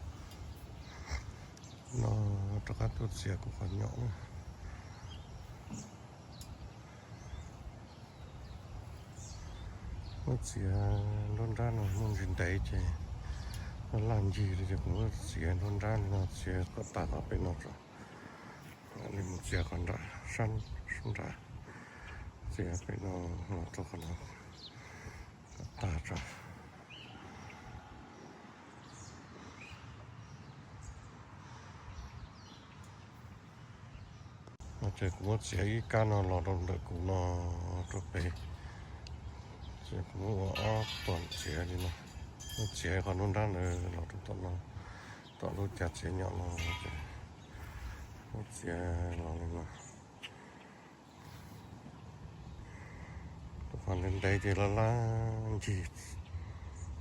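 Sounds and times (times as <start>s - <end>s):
faint bird chirps: 0.0s - 57.0s
low outdoor rumble: 0.0s - 57.0s.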